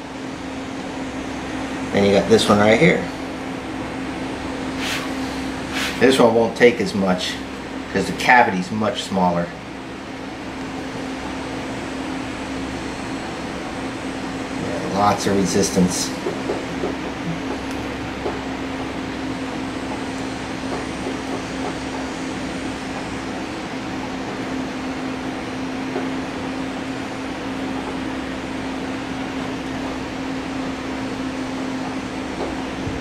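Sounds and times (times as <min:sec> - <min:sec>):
electric fan humming: 0:00.0 - 0:33.0.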